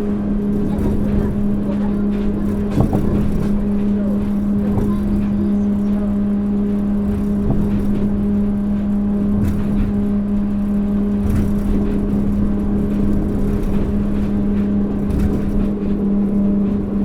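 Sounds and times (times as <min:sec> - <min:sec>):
train motor hum: 0:00.0 - 0:17.0
tyres rumbling on guideway: 0:00.0 - 0:17.0.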